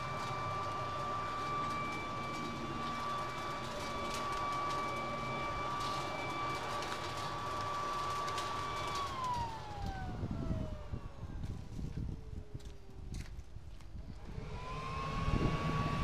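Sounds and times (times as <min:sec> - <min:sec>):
motor winding down: 0:00.0 - 0:13.0, 0:14.1 - 0:16.0
leaf blower whining: 0:00.0 - 0:16.0.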